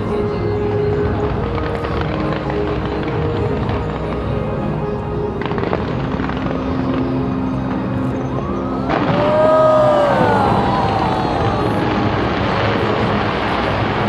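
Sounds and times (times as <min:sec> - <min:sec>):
fireworks crackling and banging: 0:00.0 - 0:14.0
music playing: 0:00.0 - 0:14.0.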